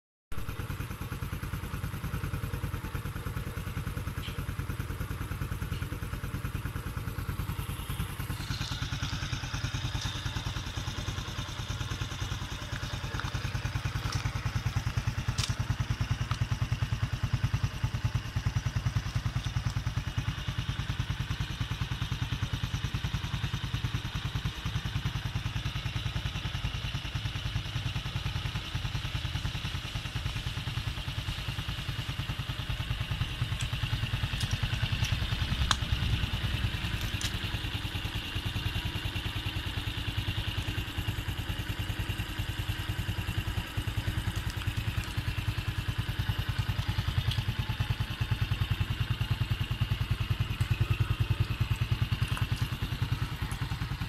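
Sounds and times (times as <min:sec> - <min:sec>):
motorcycle engine idling: 0:00.3 - 0:54.0.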